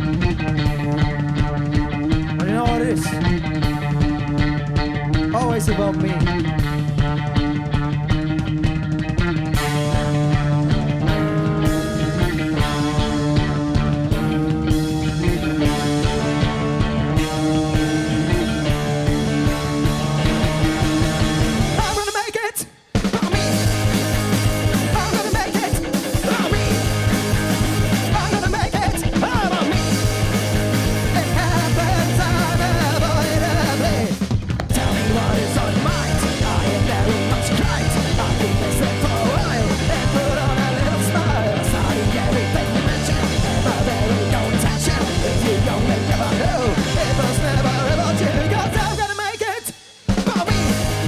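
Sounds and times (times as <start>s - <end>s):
distorted guitars: 0.0s - 51.0s
drums: 0.0s - 51.0s
loud punk band playing: 0.0s - 51.0s.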